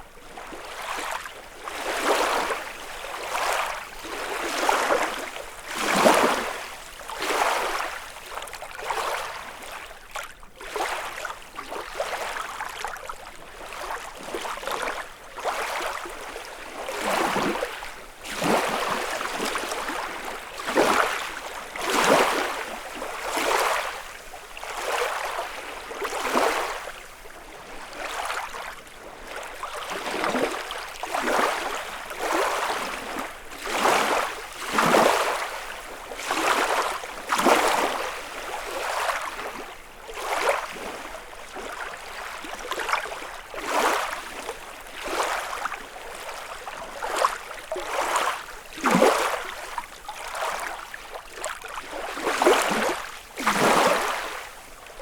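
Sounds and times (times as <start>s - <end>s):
lake waves lapping on shore: 0.1s - 55.0s.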